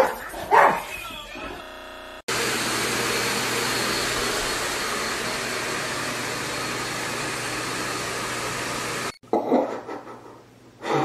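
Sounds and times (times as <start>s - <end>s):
vacuum cleaner running: 0.4s - 9.2s.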